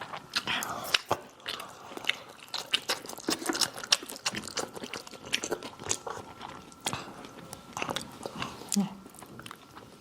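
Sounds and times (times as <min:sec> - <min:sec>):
chewing crispy fried chicken: 0:00.0 - 0:10.0.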